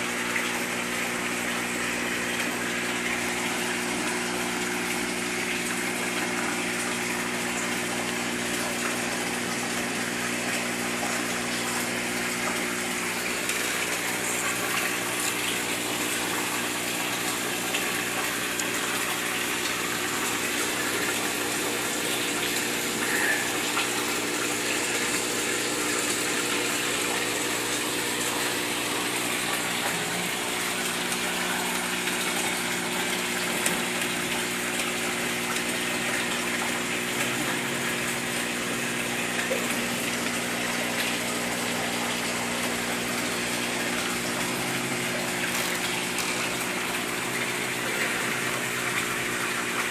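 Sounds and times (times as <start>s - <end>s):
electric pump hum: 0.0s - 49.9s
water splashing in fish tank: 0.0s - 49.9s.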